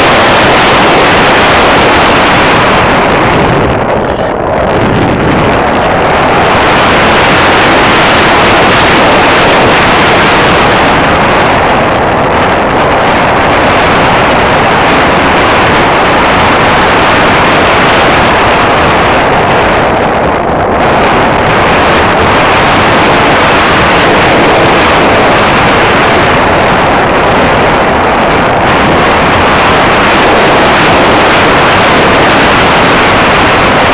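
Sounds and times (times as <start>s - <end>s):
airflow rushing: 0.0s - 33.9s
small aircraft engine: 0.0s - 33.9s
wind buffeting microphone: 0.0s - 33.9s.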